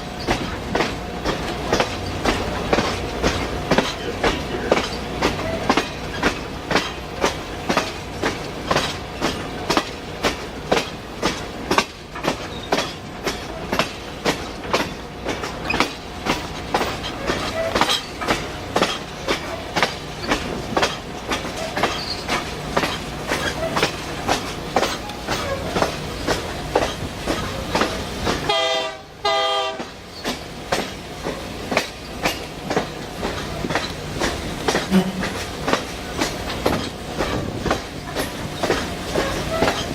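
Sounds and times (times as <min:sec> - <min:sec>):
train running rumble: 0:00.0 - 0:39.9
train wheels clickety-clack: 0:00.0 - 0:39.9.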